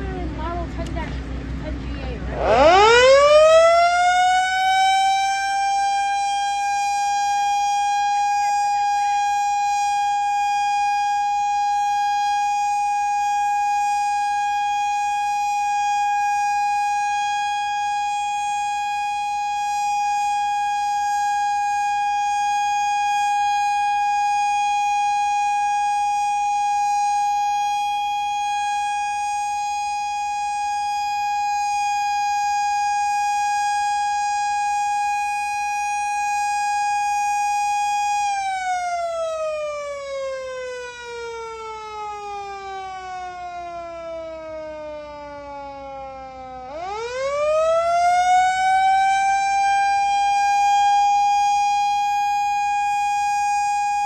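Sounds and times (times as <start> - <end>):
outdoor warning siren: 0.0 - 54.0.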